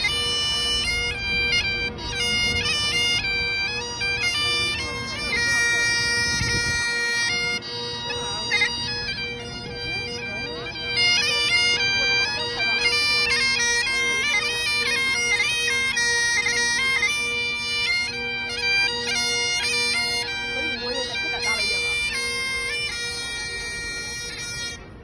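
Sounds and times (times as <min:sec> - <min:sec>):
bagpipes playing a melody: 0:00.0 - 0:25.0.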